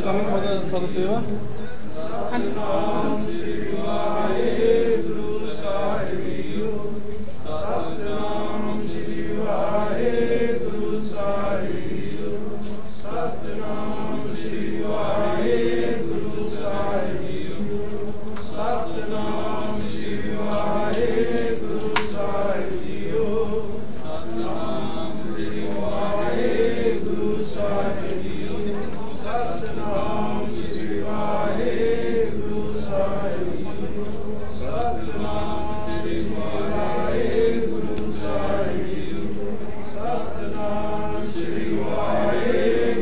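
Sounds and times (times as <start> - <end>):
voices chanting a repeated phrase: 1.8 - 43.0.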